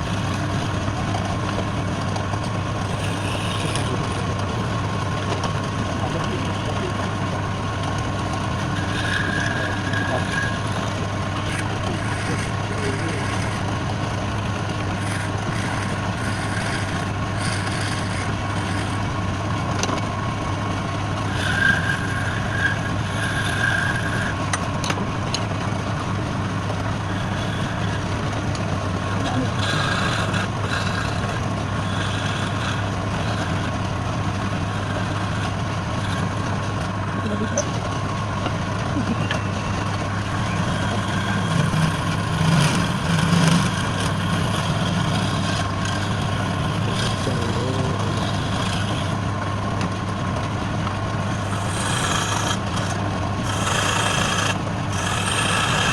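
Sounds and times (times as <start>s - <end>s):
electric motor humming: 0.0s - 55.9s.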